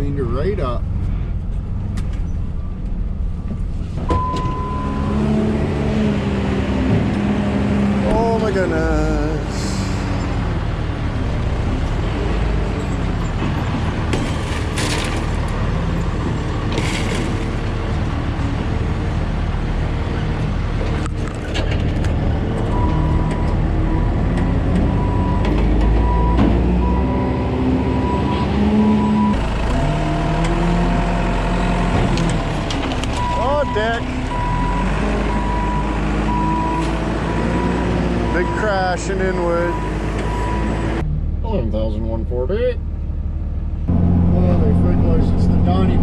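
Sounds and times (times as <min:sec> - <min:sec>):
vehicle engine and road noise: 0:00.0 - 0:46.0.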